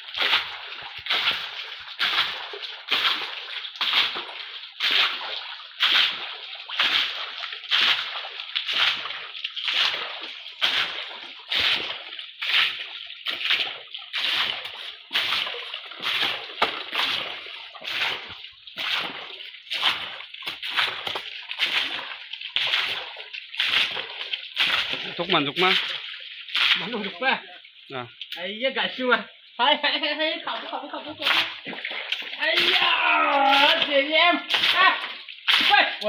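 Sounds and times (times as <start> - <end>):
water splashing by hand: 0.0 - 36.0.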